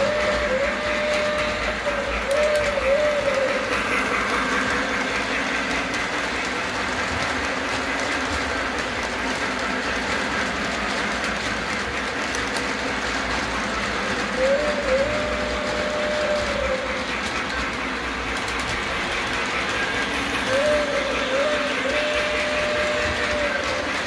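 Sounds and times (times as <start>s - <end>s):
model train wheels clattering: 0.0s - 24.0s.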